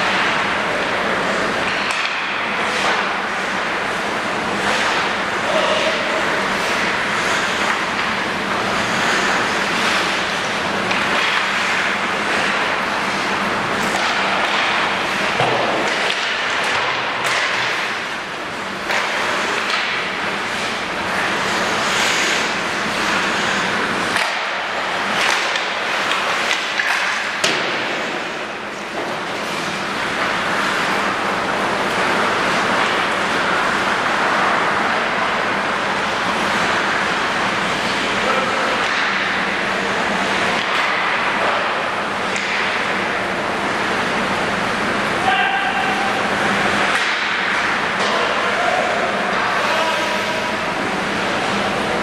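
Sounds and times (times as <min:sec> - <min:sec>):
skate blades scraping ice: 0:00.0 - 0:48.6
steady ice rink hiss: 0:00.0 - 0:52.0.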